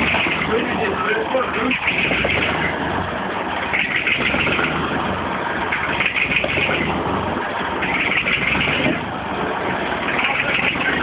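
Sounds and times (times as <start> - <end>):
diesel tractor engine idling: 0.0 - 11.0
engine hiss: 0.0 - 11.0.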